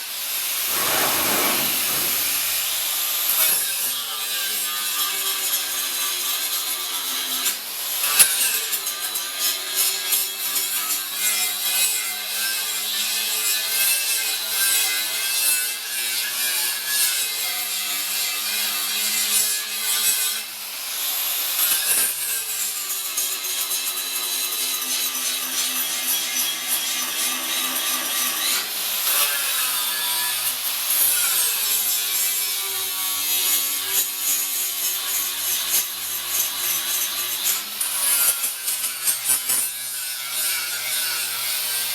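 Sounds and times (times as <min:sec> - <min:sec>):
power grinder on metal: 0:00.1 - 0:41.9.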